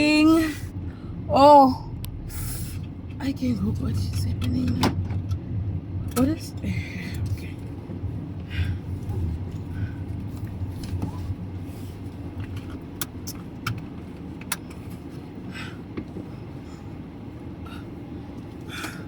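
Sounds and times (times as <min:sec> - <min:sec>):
car interior rumble: 0:00.0 - 0:19.0.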